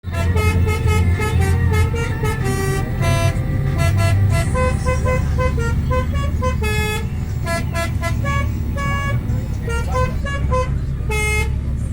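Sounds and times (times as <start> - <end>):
engine low hum: 0.0 - 11.9.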